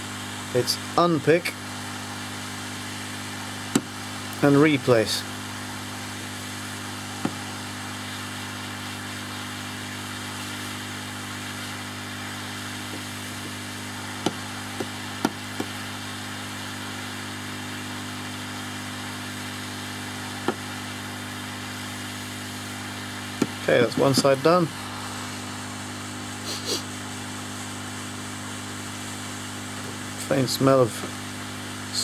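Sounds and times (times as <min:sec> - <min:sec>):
hot air gun blowing: 0:00.0 - 0:29.9.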